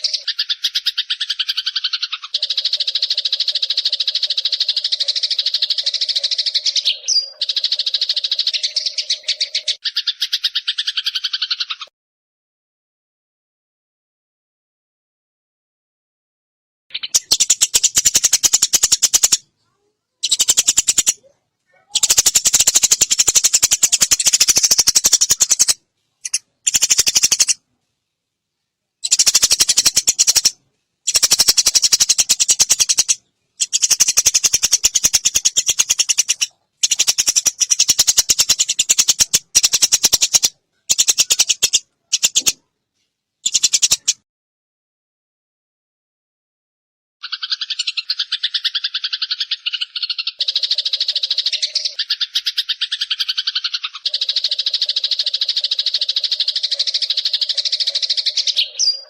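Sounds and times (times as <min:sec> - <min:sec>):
sparrow rattling chatter: 0:00.0 - 0:11.9, 0:16.9 - 0:27.6, 0:29.0 - 0:42.6, 0:43.4 - 0:44.2, 0:47.2 - 0:59.0.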